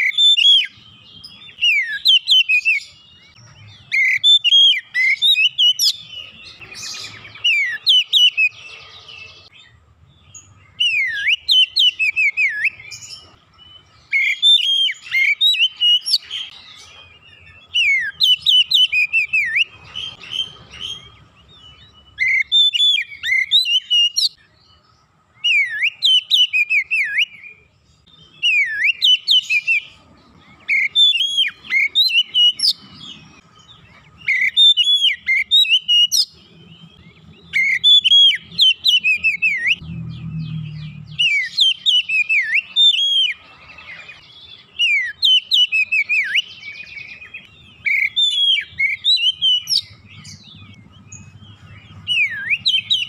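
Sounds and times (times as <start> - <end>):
bird singing whistled phrases: 0.0 - 9.5, 10.3 - 24.5, 25.4 - 33.1, 34.2 - 53.0.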